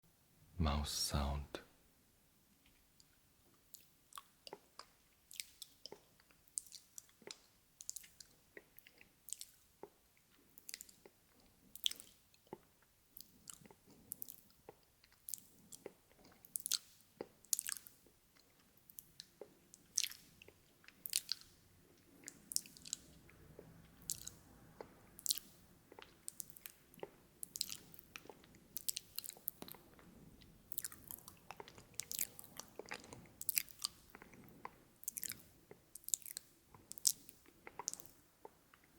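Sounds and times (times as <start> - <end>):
wet mouth clicks and smacks: 3.7 - 10.0, 11.7 - 21.6, 22.2 - 30.1, 30.7 - 38.9.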